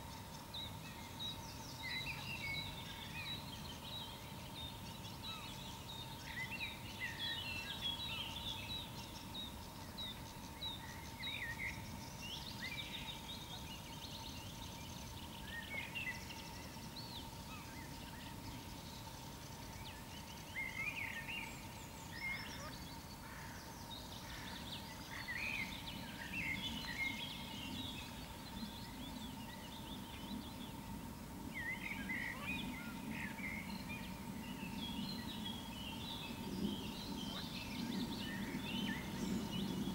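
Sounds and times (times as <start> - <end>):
faint steady tone: 0.0 - 39.9
small birds singing: 0.0 - 39.9.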